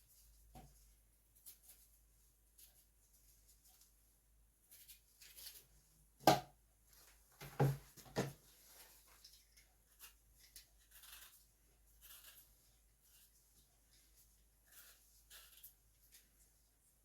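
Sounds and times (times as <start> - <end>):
faint rustling and scraping: 0.0 - 6.0, 6.8 - 17.0.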